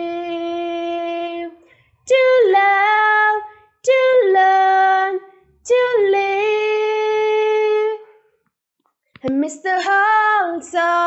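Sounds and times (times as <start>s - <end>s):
girl singing unaccompanied: 0.0s - 8.0s, 9.2s - 11.0s.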